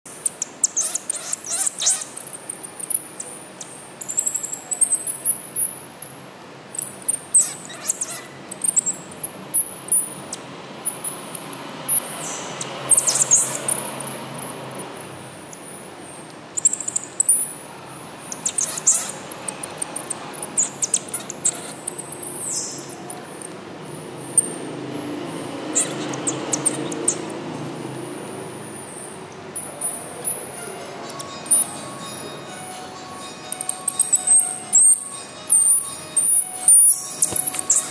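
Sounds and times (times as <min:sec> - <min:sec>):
marmoset chirps and squeaks: 0:00.2 - 0:14.5, 0:16.6 - 0:24.6, 0:25.4 - 0:27.4, 0:28.7 - 0:32.5, 0:33.4 - 0:37.9.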